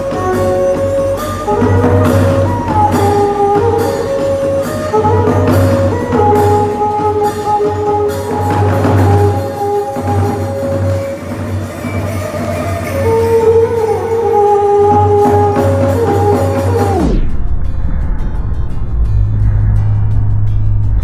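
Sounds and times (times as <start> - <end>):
drums and jingling percussion: 0.0 - 17.2
traditional ensemble melody: 0.0 - 17.3.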